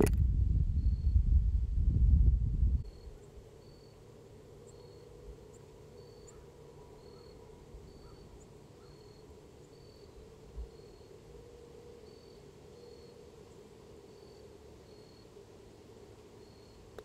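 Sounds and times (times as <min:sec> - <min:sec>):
faint steady hum: 0:00.0 - 0:17.0
insects chirping: 0:02.8 - 0:17.0.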